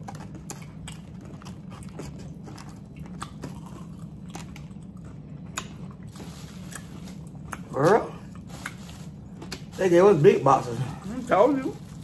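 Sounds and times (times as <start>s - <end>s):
chewing crisp fried food: 0.0s - 12.0s
steady low hum: 0.0s - 12.0s.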